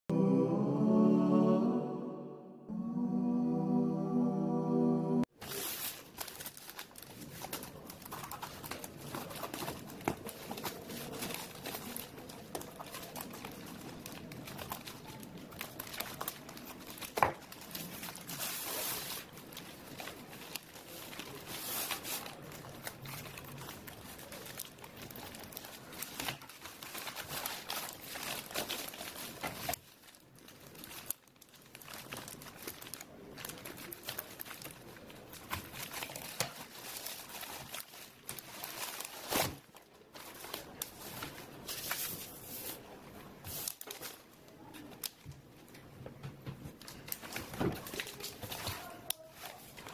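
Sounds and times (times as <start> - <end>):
rustling and crinkling: 5.4 - 49.9.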